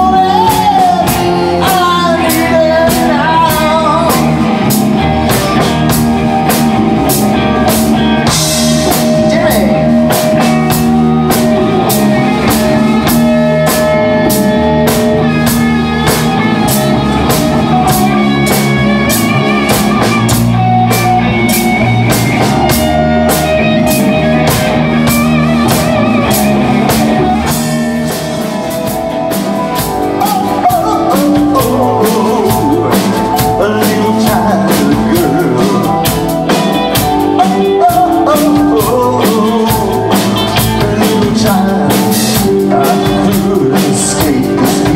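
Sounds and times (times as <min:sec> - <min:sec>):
person singing: 0:00.0 - 0:06.0, 0:07.1 - 0:27.6, 0:29.5 - 0:44.9
drum kit beat: 0:00.0 - 0:44.9
electric guitars: 0:00.0 - 0:44.9.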